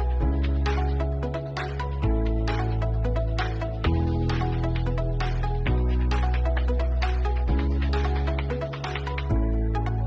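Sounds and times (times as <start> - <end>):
deep bass: 0.0 - 10.0
synth chords: 0.0 - 10.0.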